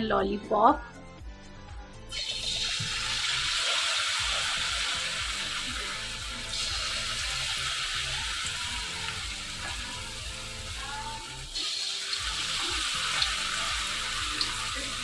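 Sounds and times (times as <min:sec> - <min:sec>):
food sizzling in hot oil: 0:02.1 - 0:15.0
oil bubbling: 0:02.1 - 0:15.0.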